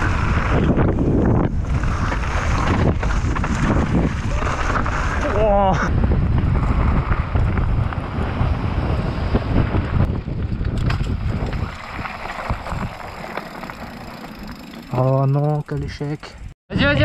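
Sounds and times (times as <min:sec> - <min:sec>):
wind buffeting microphone: 0:00.0 - 0:13.6
mountain bike rattling on trail: 0:00.0 - 0:17.0.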